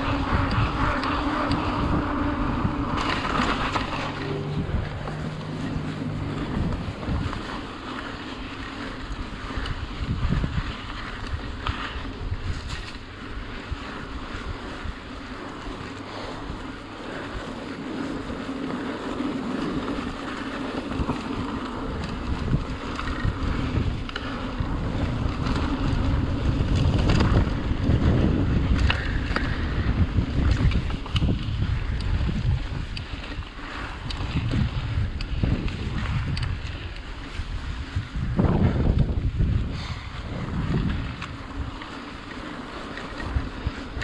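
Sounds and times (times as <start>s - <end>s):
bike clicks and rattles: 0.0s - 44.0s
bike tyres rumbling on dirt: 0.0s - 44.0s
wind buffeting microphone: 0.0s - 44.0s.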